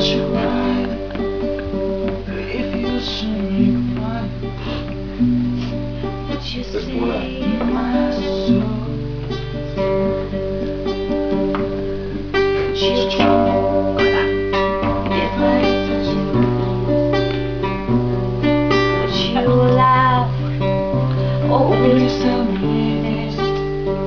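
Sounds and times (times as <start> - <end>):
person singing: 0.0 - 5.0, 5.6 - 9.8, 12.5 - 17.6, 18.8 - 24.0
acoustic guitar strumming chords: 0.0 - 24.0.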